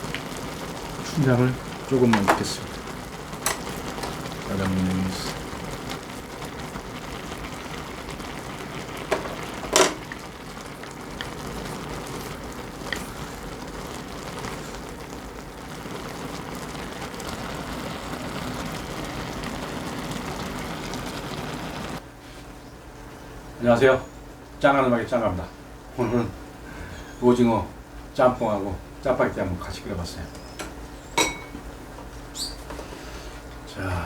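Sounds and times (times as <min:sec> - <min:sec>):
liquid simmering in a pot: 0:00.0 - 0:34.0.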